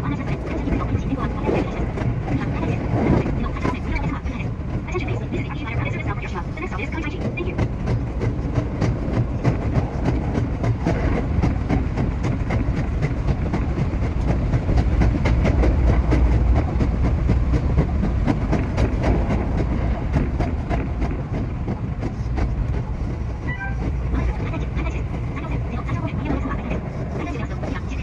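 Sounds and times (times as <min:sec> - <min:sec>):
electric train low rumble: 0:00.0 - 0:28.0
wheels clicking over track: 0:00.0 - 0:28.0.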